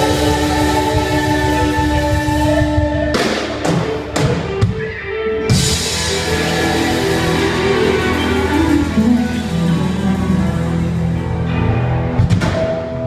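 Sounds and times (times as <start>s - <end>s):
live rock band: 0.0s - 13.0s.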